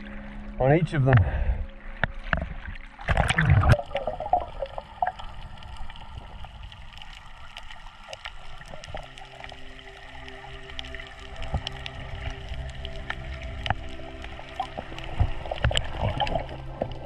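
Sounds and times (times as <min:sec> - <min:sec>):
water gurgling and bubbling: 0:00.0 - 0:17.0.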